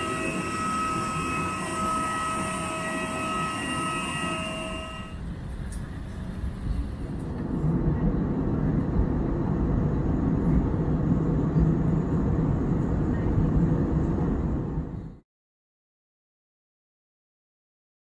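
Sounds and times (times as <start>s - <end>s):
jet cabin rumble: 0.0s - 15.2s.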